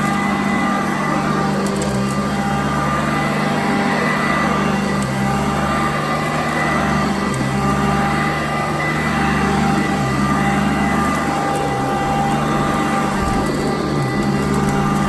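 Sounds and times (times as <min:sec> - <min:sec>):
vacuum cleaner running on carpet: 0:00.0 - 0:15.0.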